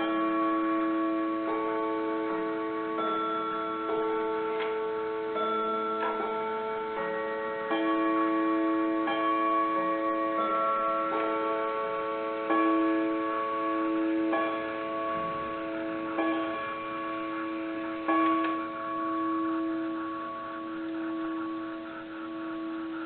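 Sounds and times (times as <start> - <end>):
clock chimes ringing: 0.0 - 23.0.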